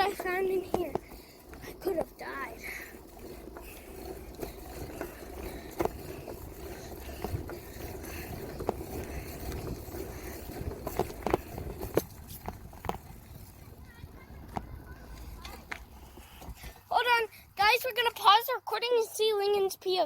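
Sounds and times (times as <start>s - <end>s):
bicycle rolling and rattling: 0.0s - 19.4s.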